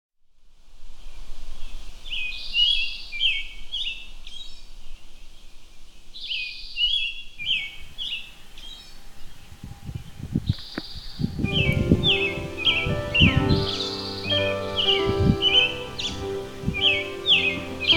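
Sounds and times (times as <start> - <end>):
faint outdoor background noise: 0.2 - 17.9
songbird singing: 1.0 - 17.9.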